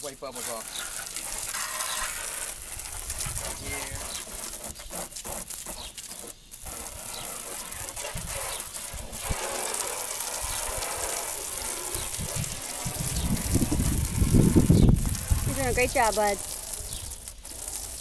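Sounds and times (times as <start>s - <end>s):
hose spraying water: 0.0s - 18.0s.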